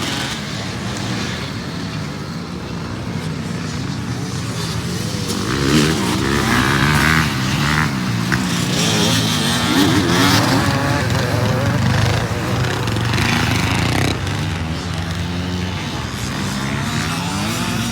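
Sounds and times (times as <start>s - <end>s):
motocross bike engines revving: 0.0s - 17.9s.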